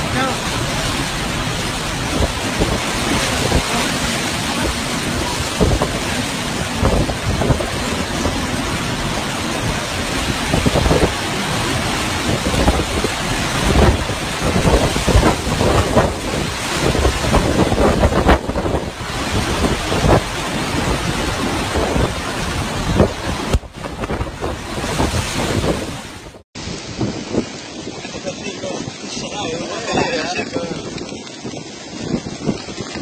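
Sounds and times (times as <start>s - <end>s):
wind gusts buffeting microphone: 0.0s - 33.0s
wind-driven heavy rain: 0.0s - 33.0s.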